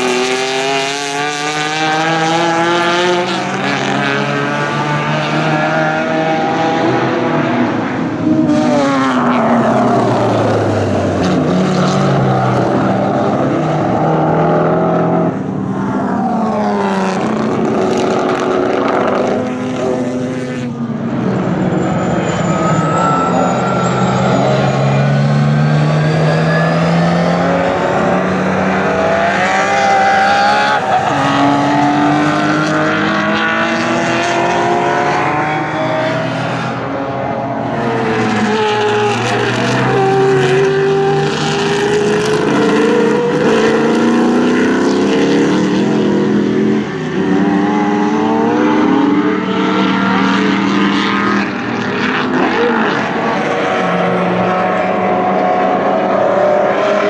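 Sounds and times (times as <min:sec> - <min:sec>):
racing car engines revving: 0:00.0 - 0:57.0.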